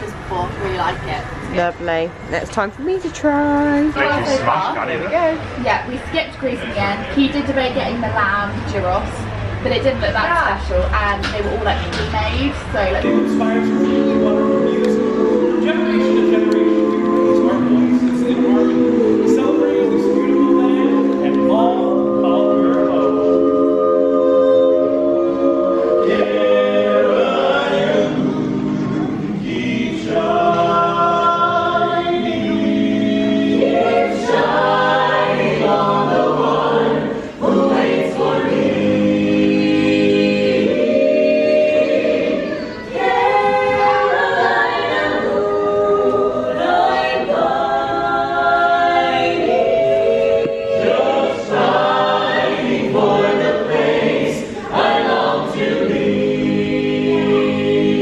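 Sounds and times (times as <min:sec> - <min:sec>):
a cappella choir singing: 0:03.9 - 0:58.0.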